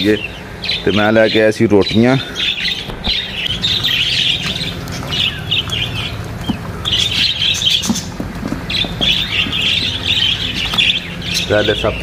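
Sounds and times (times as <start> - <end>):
parrots chattering and squawking: 0.0 - 12.0.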